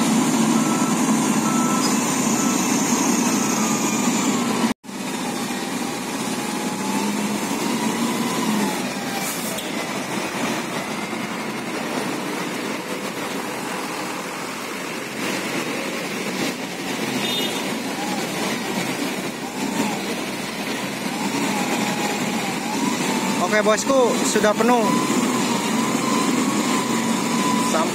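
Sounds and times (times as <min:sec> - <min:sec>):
heavy machinery engines running: 0:00.0 - 0:27.9.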